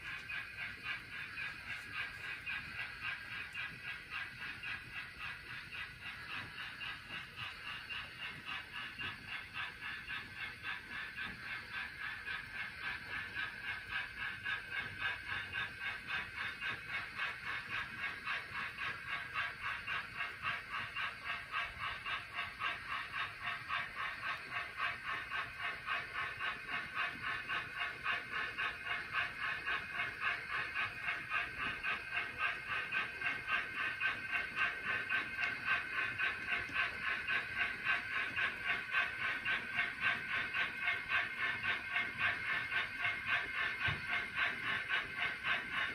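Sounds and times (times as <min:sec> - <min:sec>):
model steam locomotive chuffing: 0:00.0 - 0:45.9.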